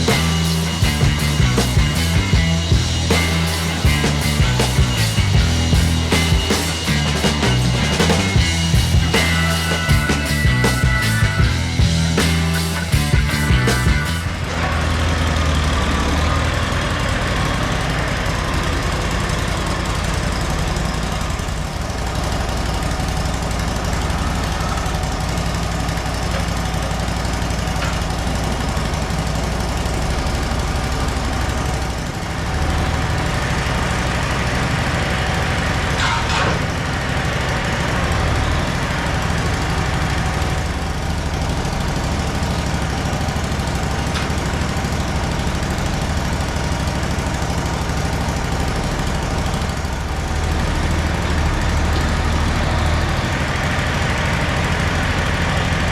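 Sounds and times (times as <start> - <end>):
band sawmill running: 0.0 - 55.9.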